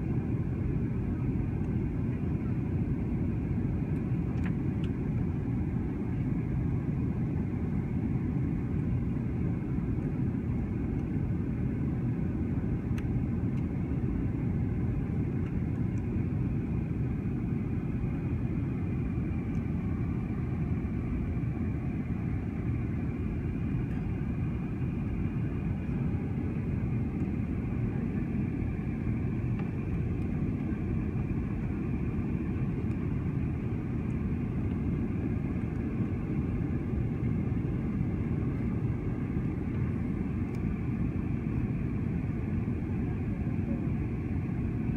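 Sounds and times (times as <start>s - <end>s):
jet engines rumbling in cabin: 0.0s - 44.9s.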